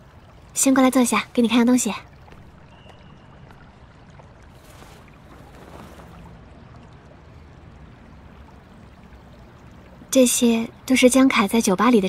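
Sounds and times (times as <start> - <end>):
lapping water: 0.0 - 11.8.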